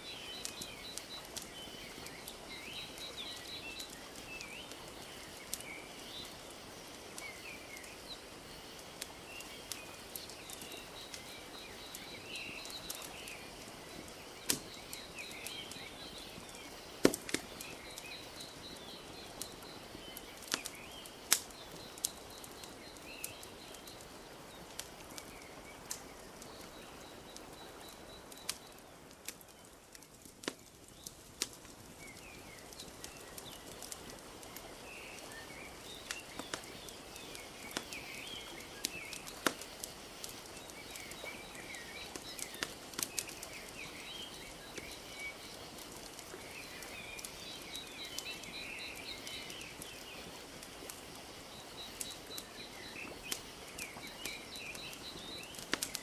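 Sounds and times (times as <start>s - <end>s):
small birds chirping: 0.0s - 56.0s
wood fire crackling: 0.0s - 56.0s.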